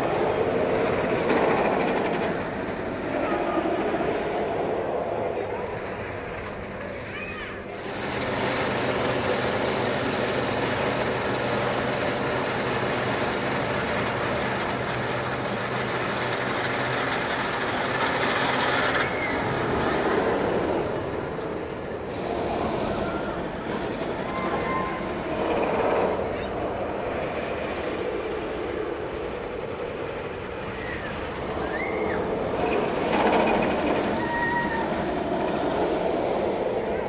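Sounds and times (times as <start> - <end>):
roller coaster train roaring: 0.0 - 37.0.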